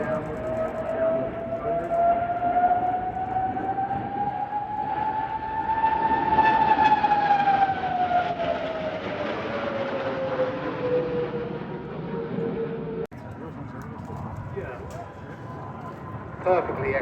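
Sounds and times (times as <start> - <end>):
jet engine whine: 0.0 - 17.0.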